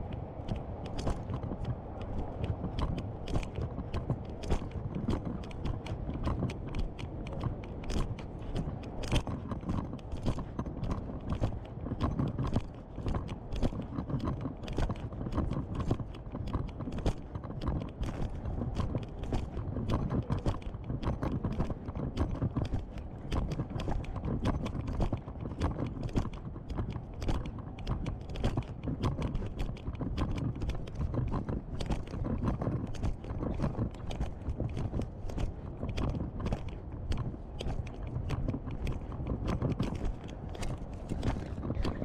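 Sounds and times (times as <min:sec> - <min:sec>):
low rumble of handheld camera: 0:00.0 - 0:42.0.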